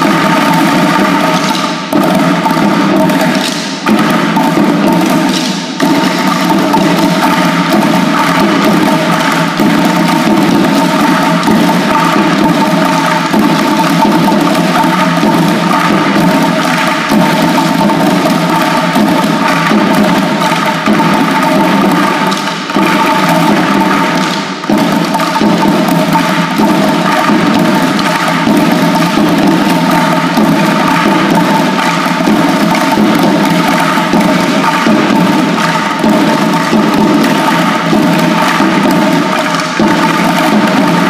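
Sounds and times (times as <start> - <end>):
drumming on plastic buckets: 0.0 - 41.0.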